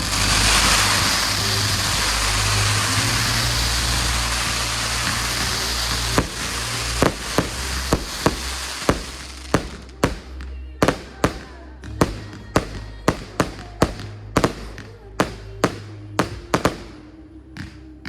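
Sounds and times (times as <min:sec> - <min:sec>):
fireworks bangs: 0:00.0 - 0:17.8
hissing crackling fireworks: 0:00.0 - 0:18.0
music: 0:00.0 - 0:18.0.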